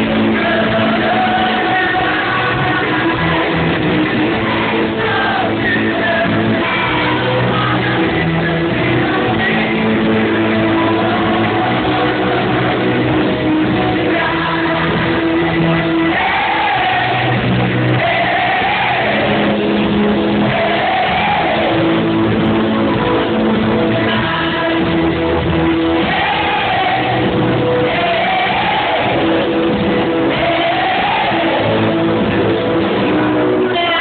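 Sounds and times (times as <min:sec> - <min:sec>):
live pop-rock band: 0:00.0 - 0:34.0
person singing: 0:00.0 - 0:34.0.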